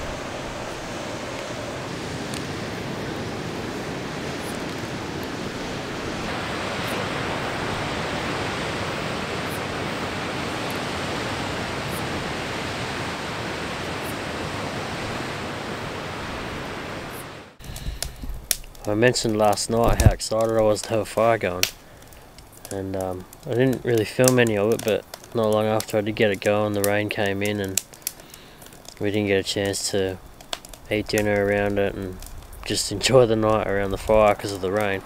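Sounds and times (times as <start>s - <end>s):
ocean surf: 0.0s - 21.8s, 26.4s - 35.0s.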